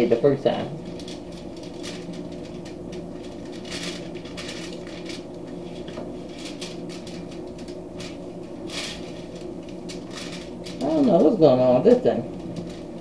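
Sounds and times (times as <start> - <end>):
foil rustling: 0.0 - 13.0
steady low hum: 0.0 - 13.0
knife scraping ribs on foil: 0.8 - 13.0.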